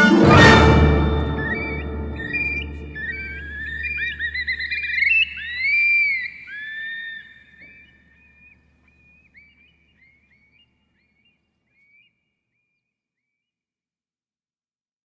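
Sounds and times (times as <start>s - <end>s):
curlew whistling calls: 1.1s - 13.3s.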